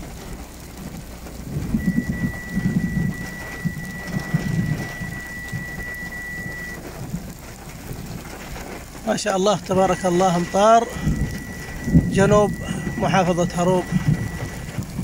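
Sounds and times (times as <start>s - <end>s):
heavy rain pouring: 0.0s - 15.0s
low rumbling surges: 0.0s - 15.0s.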